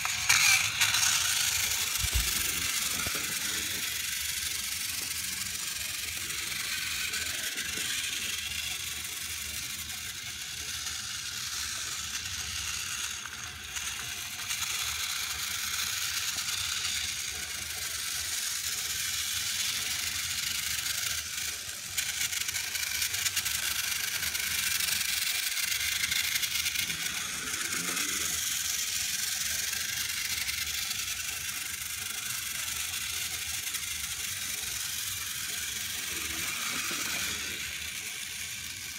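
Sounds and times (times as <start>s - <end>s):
toy train motors whirring: 0.0s - 38.9s.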